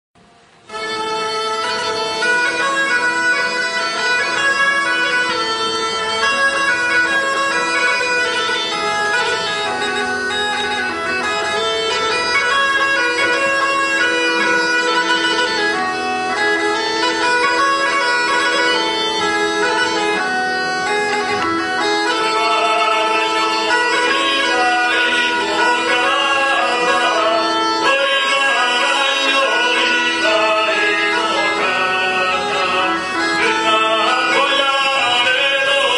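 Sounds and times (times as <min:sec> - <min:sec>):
bagpipe playing folk tune: 0:00.4 - 0:35.9.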